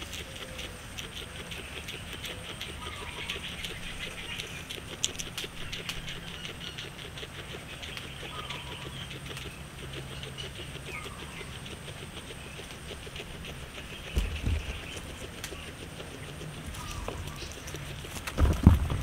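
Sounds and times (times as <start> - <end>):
guinea pig chewing grass: 0.0 - 19.0.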